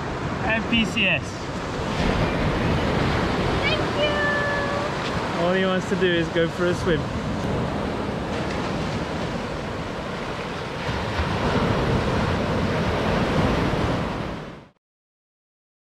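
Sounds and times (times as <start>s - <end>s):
ocean surf on sandy beach: 0.0s - 14.8s.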